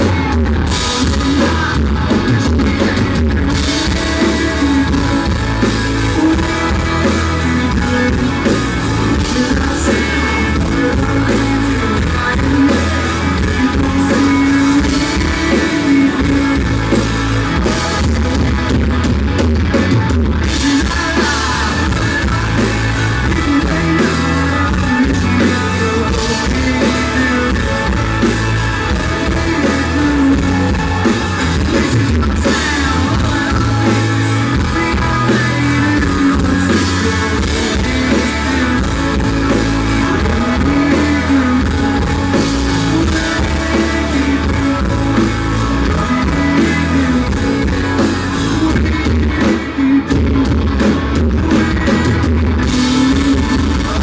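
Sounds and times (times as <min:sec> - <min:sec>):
bass line: 0:00.0 - 0:54.0
drum kit: 0:00.0 - 0:54.0
electric guitar: 0:00.0 - 0:54.0
live country-rock band: 0:00.0 - 0:54.0.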